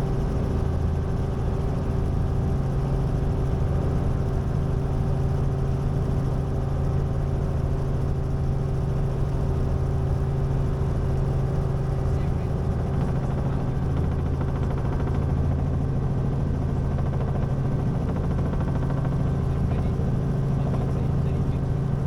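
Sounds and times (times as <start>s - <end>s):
helicopter engine and rotors droning: 0.0s - 22.0s.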